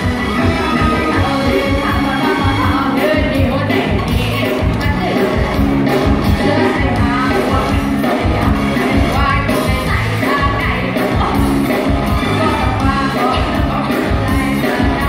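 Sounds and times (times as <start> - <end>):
person singing: 0.0 - 11.5, 12.1 - 15.0
live band music: 0.0 - 15.0.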